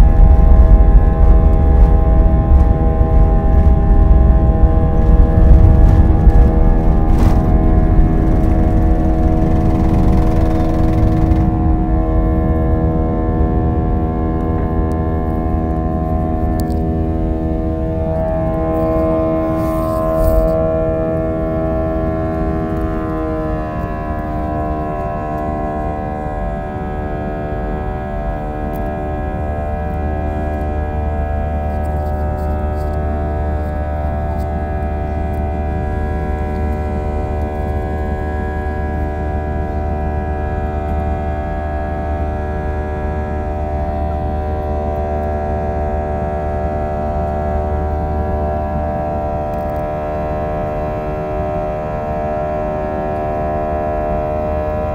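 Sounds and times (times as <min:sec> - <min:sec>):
airliner engines droning in cabin: 0:00.0 - 0:54.9.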